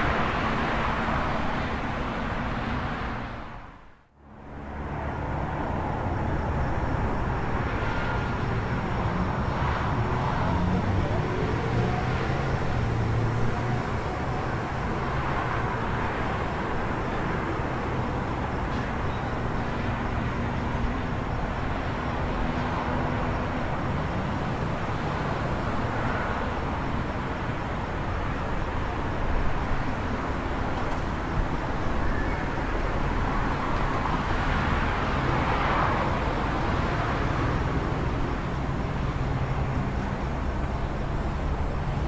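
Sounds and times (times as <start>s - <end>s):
passing cars: 0.0s - 42.0s.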